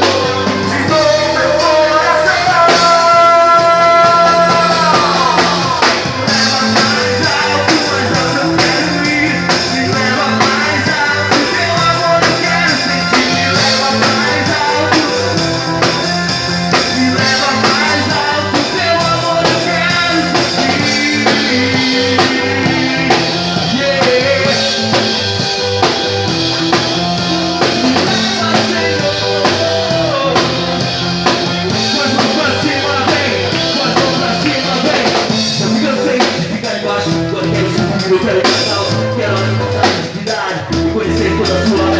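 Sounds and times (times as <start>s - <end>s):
band playing rock music: 0.0s - 41.9s
drum kit: 0.0s - 41.9s
guitar: 0.0s - 41.9s.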